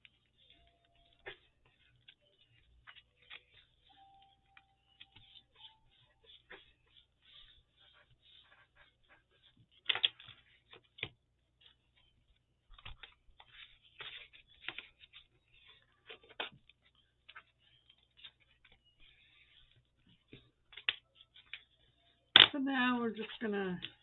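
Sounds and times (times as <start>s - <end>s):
paper rustling: 0.0s - 22.4s.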